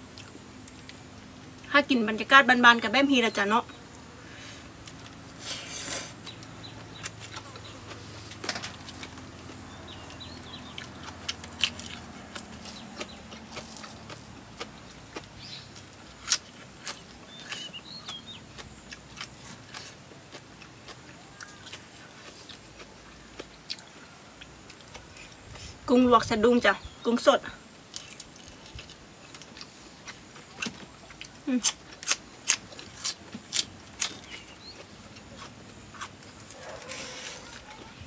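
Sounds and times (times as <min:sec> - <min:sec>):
low steady hum: 0:00.0 - 0:38.0
birds chirping faintly: 0:00.2 - 0:38.0
eating clicks and crunches: 0:04.8 - 0:25.6, 0:27.9 - 0:38.0.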